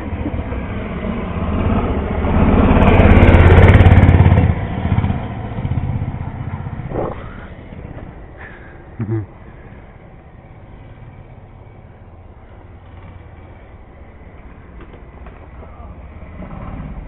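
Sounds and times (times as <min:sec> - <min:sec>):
small engine passing by: 0:00.0 - 0:17.0.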